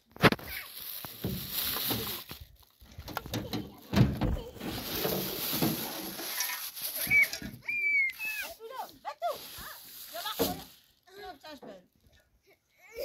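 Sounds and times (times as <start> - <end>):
plastic bag crinkling: 0.1 - 11.6.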